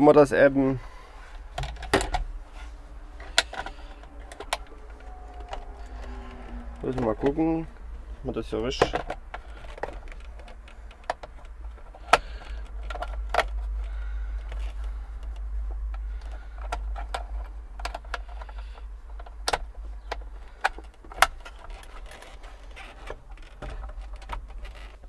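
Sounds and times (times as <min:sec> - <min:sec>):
sharp clicks of hard parts: 0:03.2 - 0:07.5, 0:08.6 - 0:25.0.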